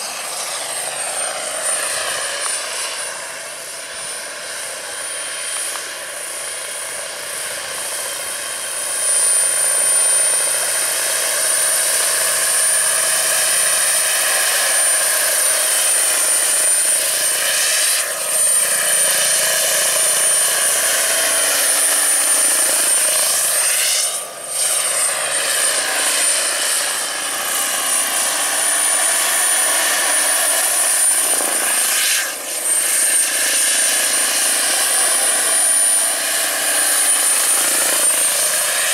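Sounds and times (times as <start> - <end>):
helicopter rotor noise: 0.0 - 38.9
model helicopter turbine whine: 0.0 - 38.9.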